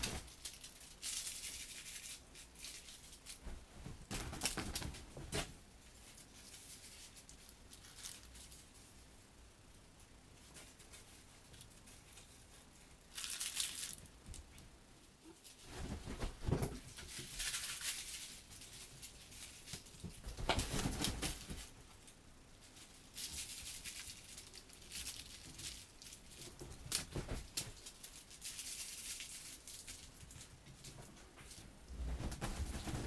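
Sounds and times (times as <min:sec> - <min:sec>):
crinkle balls rustling: 0:00.0 - 0:05.3, 0:06.0 - 0:08.9, 0:11.0 - 0:14.6, 0:15.4 - 0:33.0.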